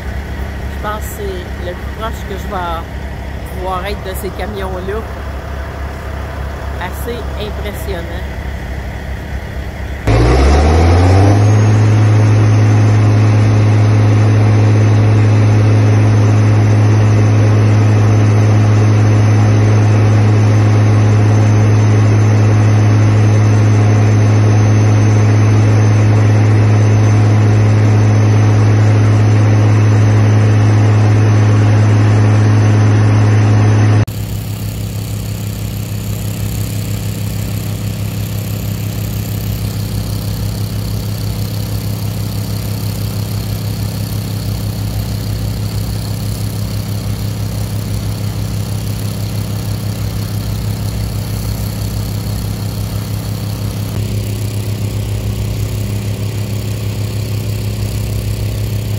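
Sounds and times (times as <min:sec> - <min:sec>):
fire truck diesel engine drone: 0:00.0 - 0:58.9.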